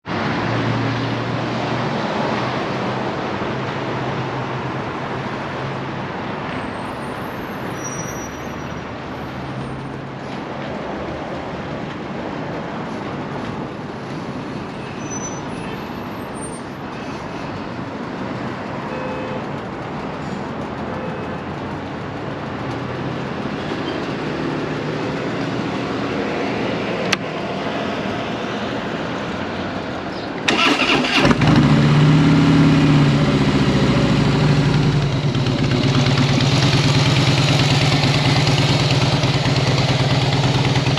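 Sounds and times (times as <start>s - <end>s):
motor vehicle noise: 0.0s - 40.9s.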